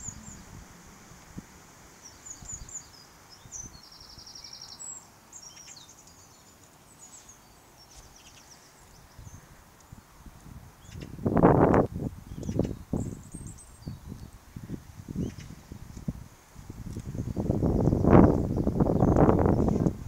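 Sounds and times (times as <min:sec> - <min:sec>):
small birds chirping: 0:00.0 - 0:11.3, 0:12.2 - 0:16.1, 0:16.8 - 0:20.0.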